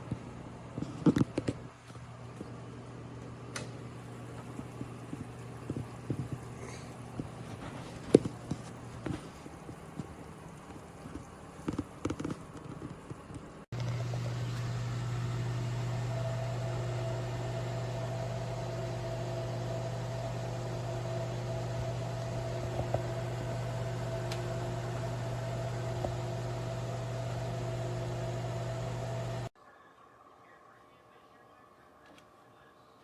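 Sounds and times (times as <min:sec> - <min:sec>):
appliance fan whirring: 0:00.0 - 0:29.5.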